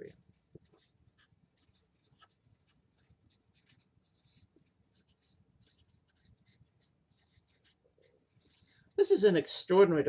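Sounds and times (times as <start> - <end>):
marker scratching on paper: 0.0 - 9.0.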